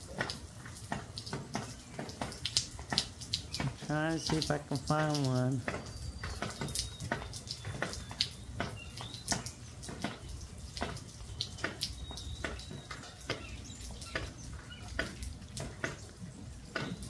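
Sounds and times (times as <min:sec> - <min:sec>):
rain drops dripping: 0:00.0 - 0:17.0.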